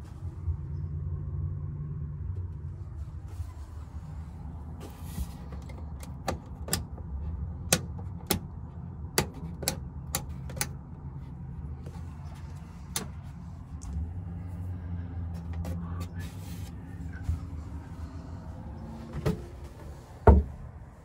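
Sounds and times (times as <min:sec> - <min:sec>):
low engine rumble: 0:00.0 - 0:21.0.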